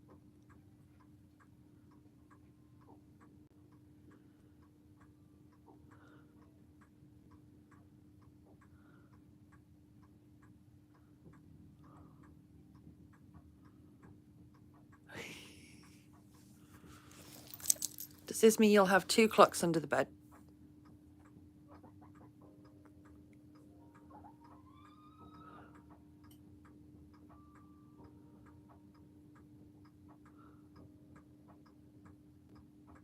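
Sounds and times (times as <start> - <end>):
clock ticking: 0.0 - 16.4, 17.4 - 33.0
faint steady hum: 0.0 - 33.0.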